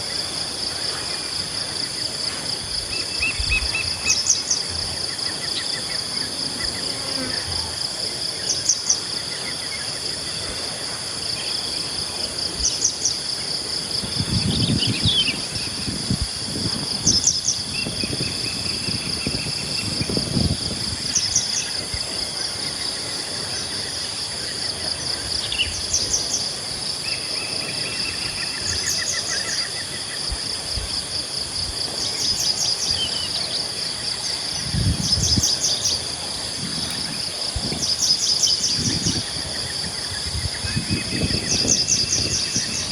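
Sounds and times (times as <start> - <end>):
insect drone: 0.0 - 42.9.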